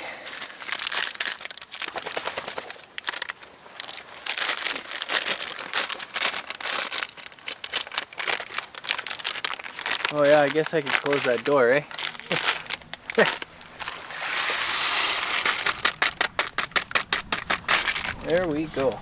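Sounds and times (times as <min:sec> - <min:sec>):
plastic packaging crinkling: 0:00.1 - 0:19.0.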